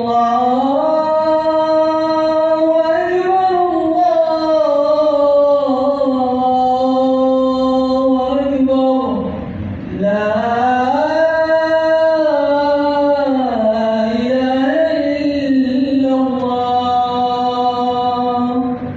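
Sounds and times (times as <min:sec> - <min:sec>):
man chanting call to prayer: 0:00.0 - 0:18.9.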